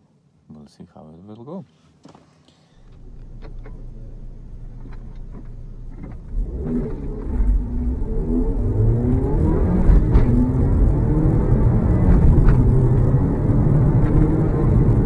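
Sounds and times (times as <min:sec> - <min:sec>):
car engine idling and revving: 0:02.8 - 0:15.0.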